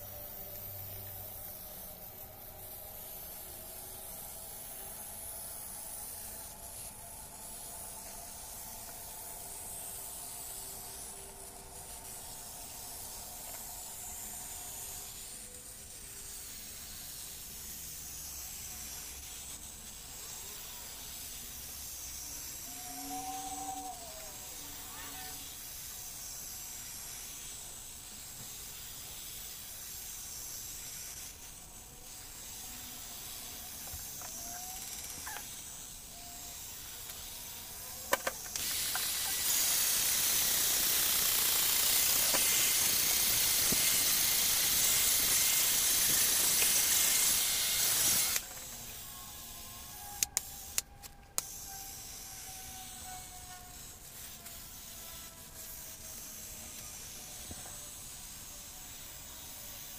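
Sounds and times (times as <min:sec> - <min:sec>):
loud steady hiss: 0:00.0 - 0:59.9.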